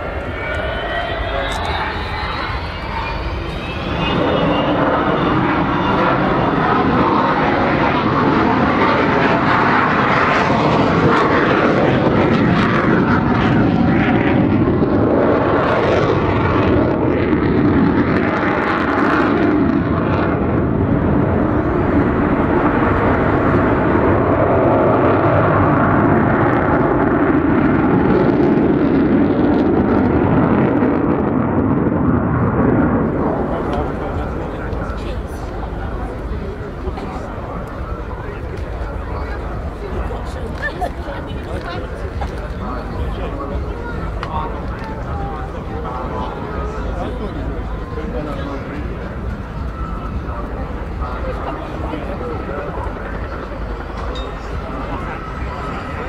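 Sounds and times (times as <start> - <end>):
loud jet roar with howl: 0.0 - 56.0.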